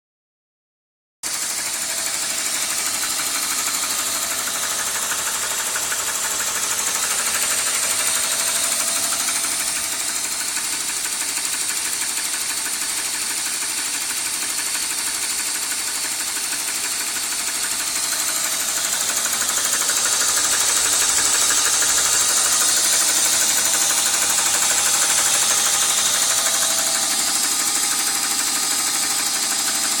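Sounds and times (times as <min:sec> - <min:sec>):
car engine running: 0:01.3 - 0:30.0
rapid engine ticking: 0:01.3 - 0:30.0.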